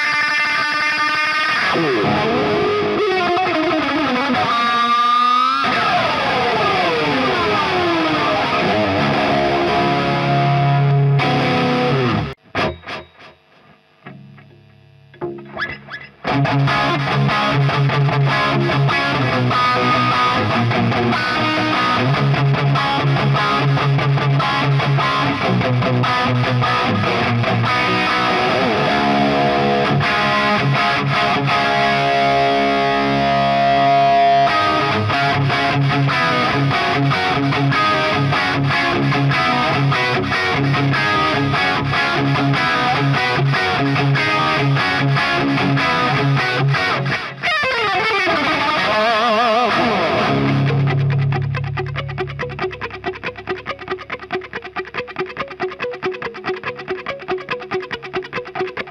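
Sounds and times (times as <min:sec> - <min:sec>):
electric guitar playing rock riffs: 0:00.0 - 0:58.9.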